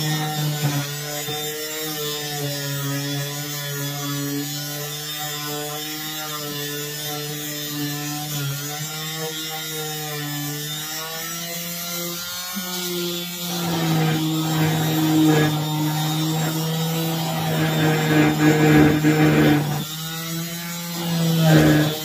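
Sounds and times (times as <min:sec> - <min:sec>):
electric sander on wood: 0:00.0 - 0:22.0.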